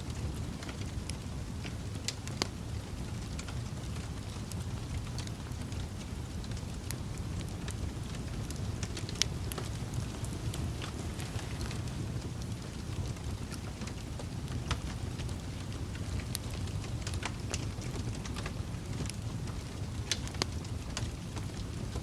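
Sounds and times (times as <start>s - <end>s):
campfire burning: 0.0s - 22.0s
fire crackling and popping: 0.0s - 22.0s.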